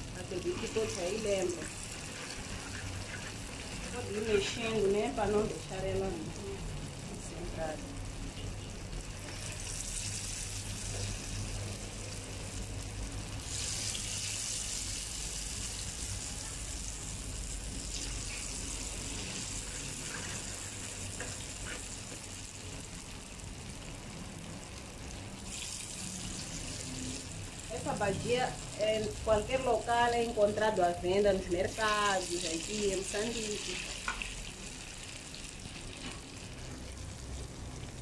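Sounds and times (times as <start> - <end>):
fritters sizzling in hot oil: 0.0 - 38.0.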